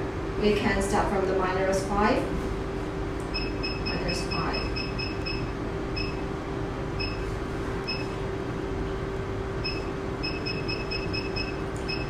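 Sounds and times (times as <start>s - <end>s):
machine running hum: 0.0s - 12.0s.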